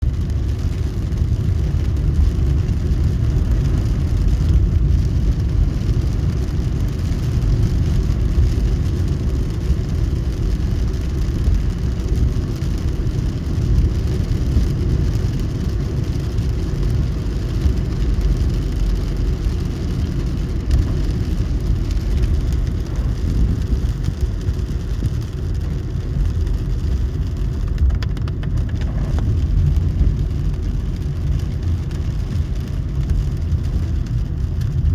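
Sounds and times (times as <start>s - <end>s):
car engine and tyres on wet road: 0.0s - 34.9s.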